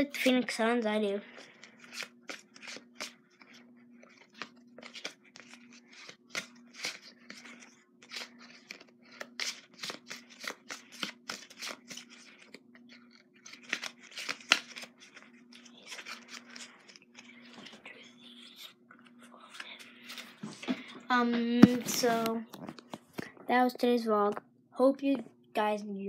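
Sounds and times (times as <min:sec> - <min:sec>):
trading cards flipping and rustling: 0:01.2 - 0:23.4.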